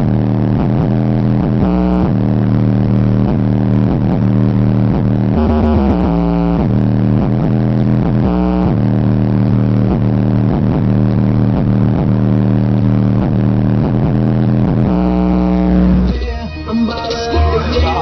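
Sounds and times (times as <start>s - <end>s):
hip-hop track with heavy bass: 0.0s - 18.0s
sliding bass notes: 0.0s - 18.0s.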